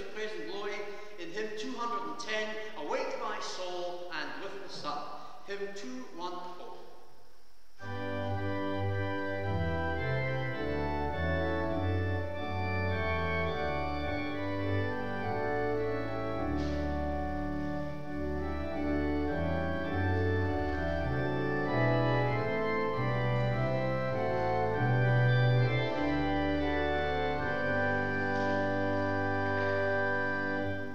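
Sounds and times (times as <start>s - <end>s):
church organ playing a hymn: 0.0s - 4.9s, 7.8s - 30.9s.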